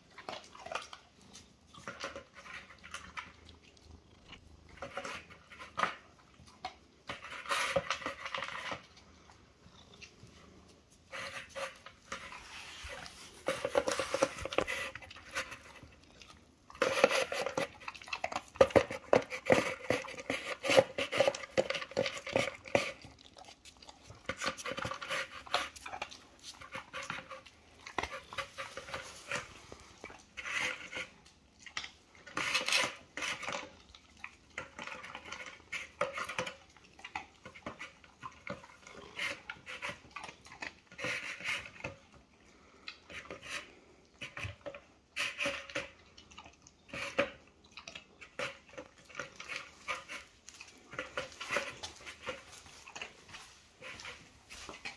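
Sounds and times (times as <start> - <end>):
dog chewing: 0.0 - 54.9.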